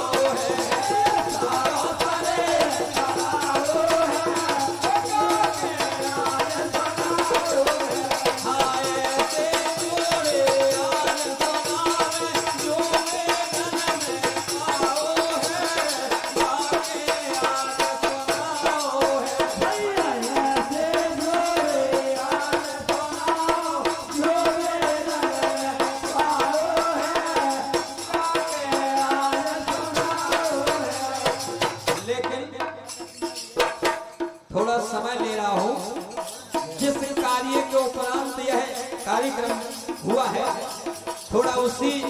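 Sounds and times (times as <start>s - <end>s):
folk devotional music: 0.0s - 42.0s
hand drum beat: 0.0s - 42.0s.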